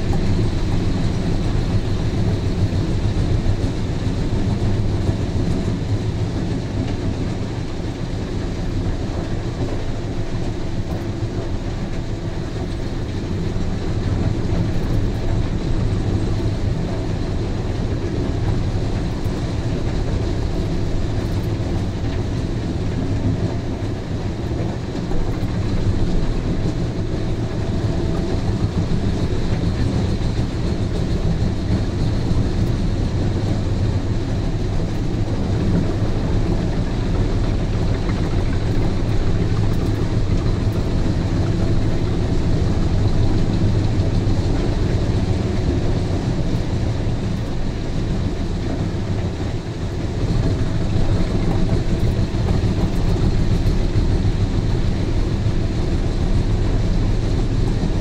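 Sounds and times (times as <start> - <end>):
heavy engine drone: 0.0 - 58.0.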